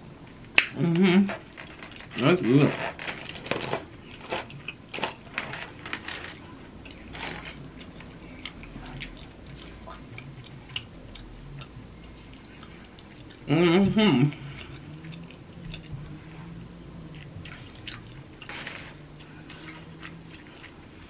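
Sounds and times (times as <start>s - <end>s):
mouth chewing food: 3.4s - 21.0s.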